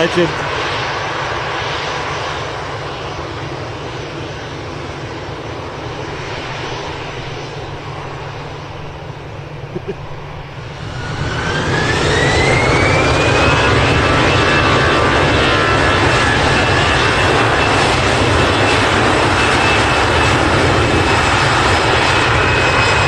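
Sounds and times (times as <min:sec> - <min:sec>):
jet engine rumble: 0:00.0 - 0:23.0
rising engine whine: 0:00.0 - 0:23.0.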